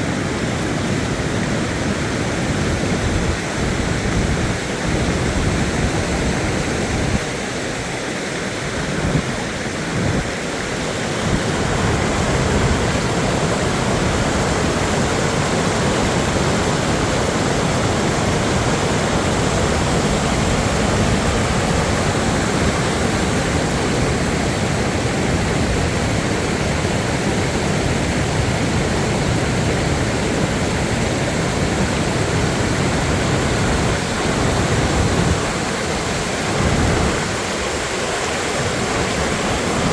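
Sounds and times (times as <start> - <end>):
storm water rushing: 0.0 - 39.9.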